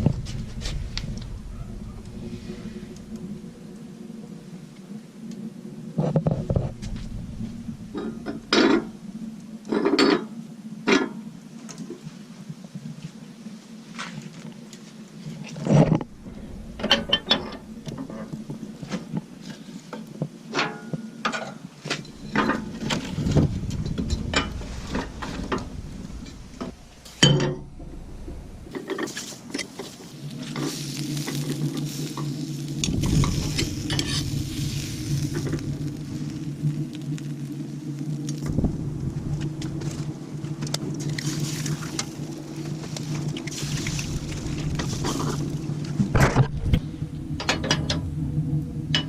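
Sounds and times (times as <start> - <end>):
steady hiss with low hum: 0.0 - 49.0.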